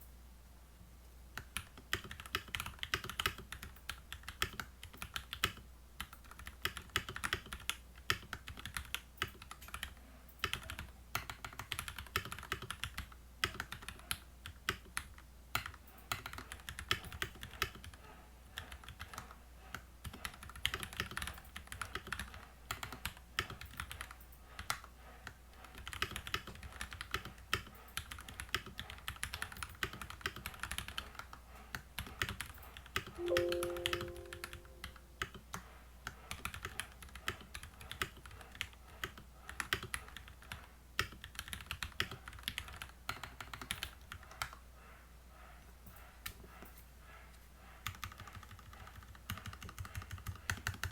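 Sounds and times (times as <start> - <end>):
mechanical keyboard typing: 1.4 - 18.0, 18.6 - 44.6, 47.8 - 50.9.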